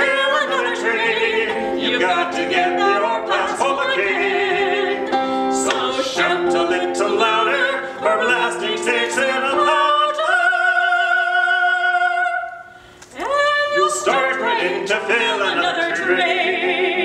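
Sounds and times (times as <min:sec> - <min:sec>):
folk singing with instruments: 0:00.0 - 0:17.0.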